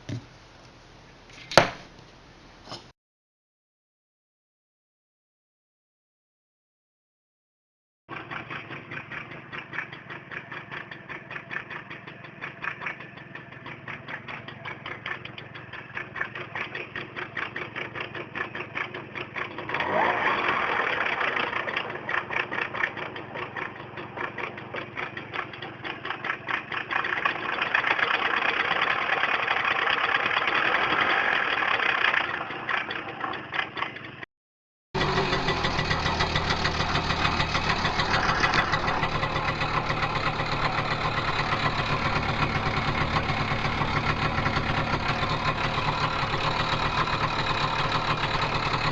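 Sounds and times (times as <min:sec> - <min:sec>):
moped two-stroke engine running: 0:08.1 - 0:34.2, 0:35.0 - 0:48.9.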